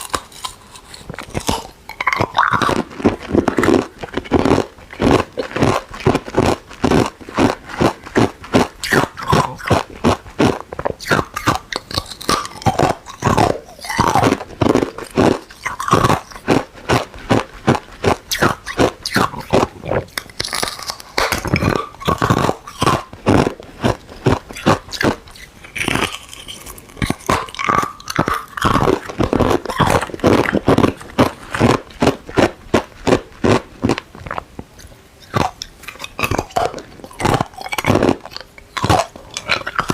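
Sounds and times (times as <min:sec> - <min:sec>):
ice cubes crunching: 0:00.0 - 0:34.4, 0:35.2 - 0:39.9.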